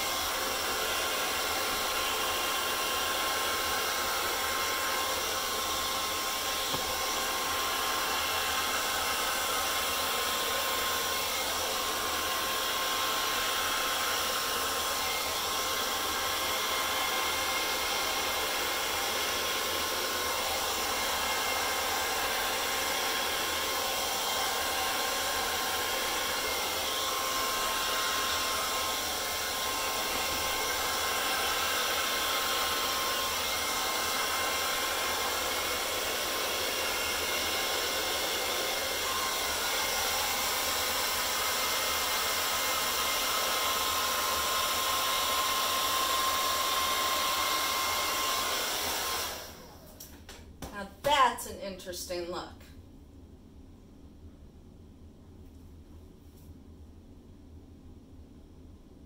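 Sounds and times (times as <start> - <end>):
hair dryer running: 0.0 - 52.5.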